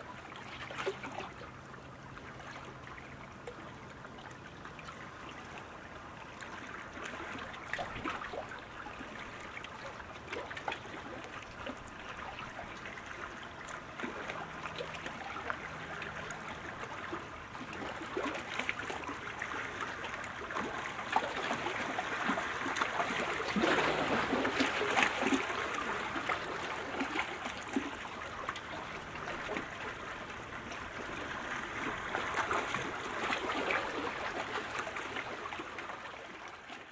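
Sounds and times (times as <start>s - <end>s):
water splashing around boats: 0.0s - 36.9s.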